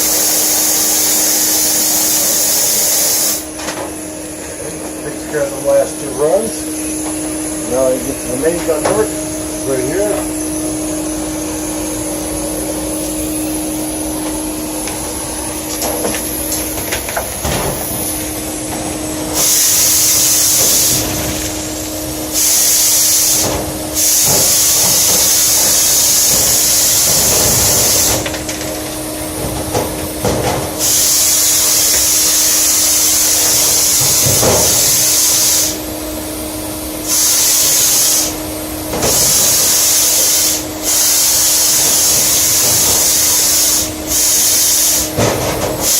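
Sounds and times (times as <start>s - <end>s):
compressed air hissing blasts: 0.0s - 45.9s
vacuum humming: 0.0s - 45.9s.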